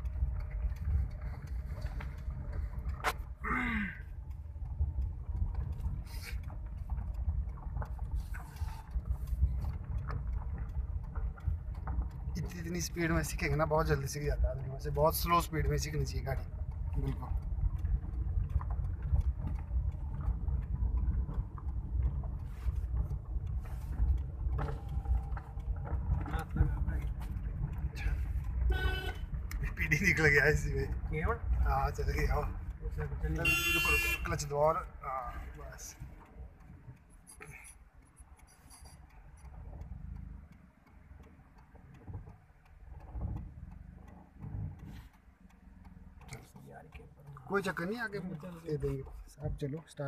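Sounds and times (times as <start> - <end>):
car engine and road rumble: 0.0 - 50.0
faint clicks: 0.0 - 50.0.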